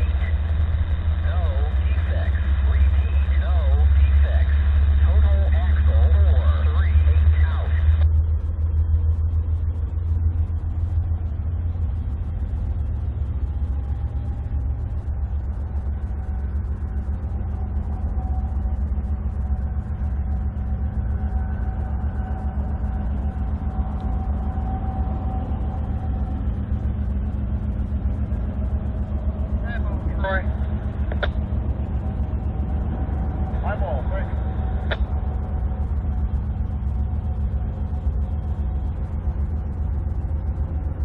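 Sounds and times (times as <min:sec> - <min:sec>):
freight train rumbling: 0:00.0 - 0:41.0.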